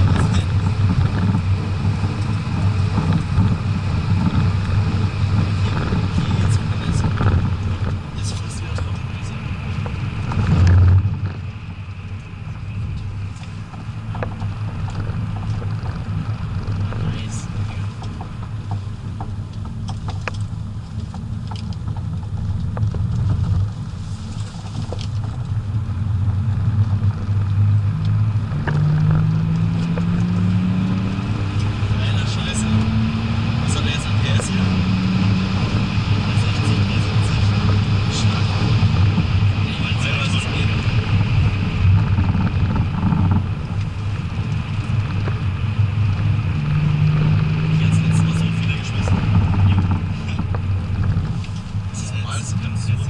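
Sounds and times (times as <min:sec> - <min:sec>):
diesel car engine drone at speed: 0:00.0 - 0:53.0
road noise on wet road: 0:00.0 - 0:53.0.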